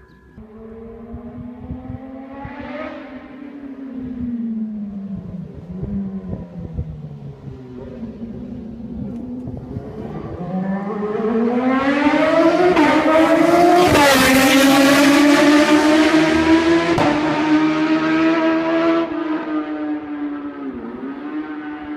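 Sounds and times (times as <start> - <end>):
high-revving vehicle engine accelerating: 0.4 - 21.9.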